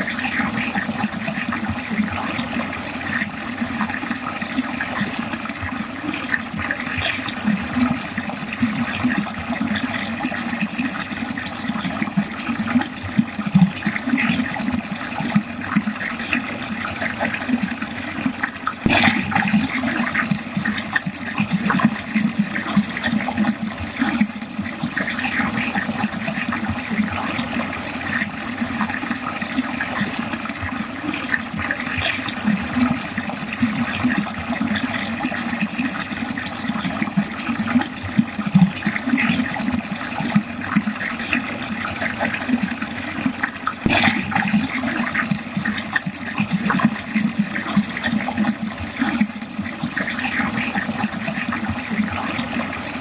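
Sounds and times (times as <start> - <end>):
water draining down a drain: 0.0 - 53.0.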